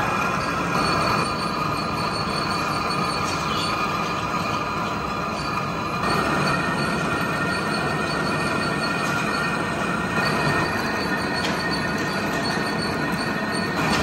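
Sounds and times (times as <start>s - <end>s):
lathe cutting metal grinding: 0.0s - 14.0s
steady high-pitched tones: 0.0s - 14.0s.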